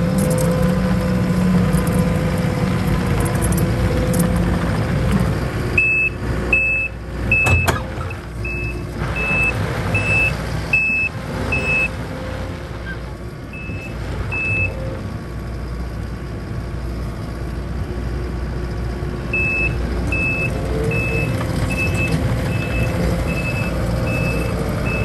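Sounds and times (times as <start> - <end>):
diesel engine running hard: 0.0 - 25.0.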